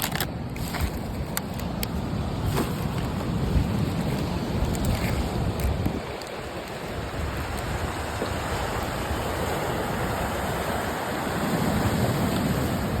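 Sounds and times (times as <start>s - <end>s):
waves washing on stony shore: 0.0s - 13.0s.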